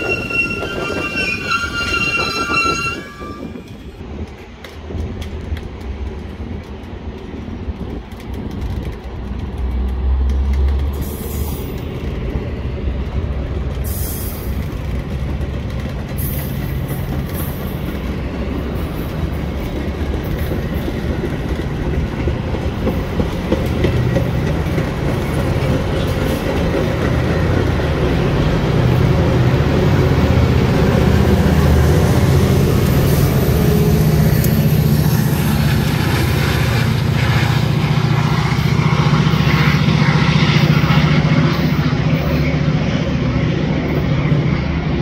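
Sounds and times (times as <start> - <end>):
diesel locomotive engines droning: 0.0 - 45.0.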